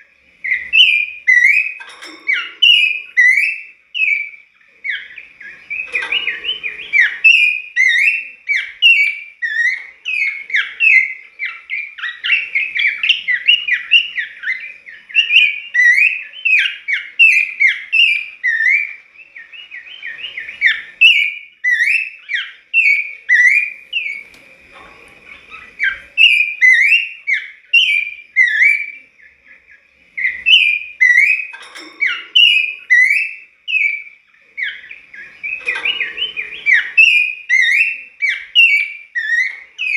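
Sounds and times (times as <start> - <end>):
bird singing whistled notes: 0.0 - 24.7, 25.3 - 39.9.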